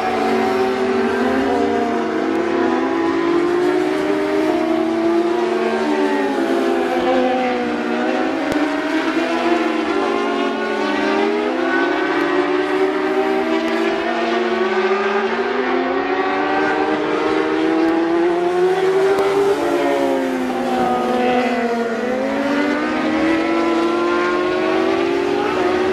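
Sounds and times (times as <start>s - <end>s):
superbike engines revving: 0.0s - 25.9s.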